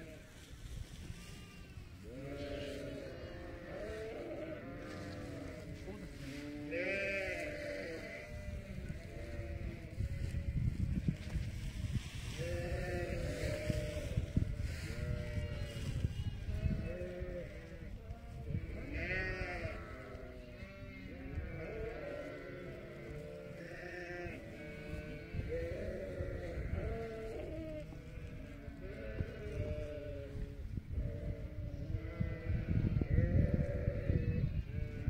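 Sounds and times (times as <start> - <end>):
sheep bleating: 1.1 - 10.6, 12.3 - 35.0.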